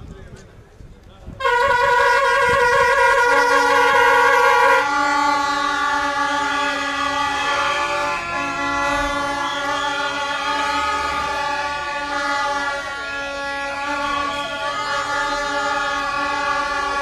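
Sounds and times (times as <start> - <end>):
horns blaring: 1.4 - 17.0.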